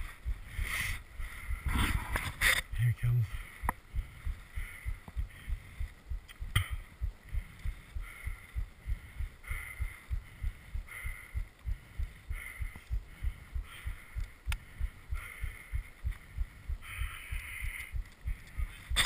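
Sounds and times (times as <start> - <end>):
person panting hard: 0.0 - 2.1, 3.3 - 19.0
rapid low thumping: 0.0 - 2.1, 3.1 - 19.0.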